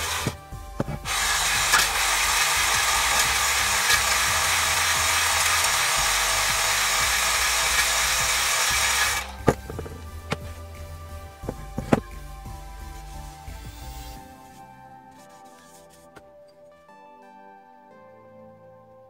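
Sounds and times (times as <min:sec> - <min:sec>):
drill spinning wire brush: 0:00.0 - 0:16.2.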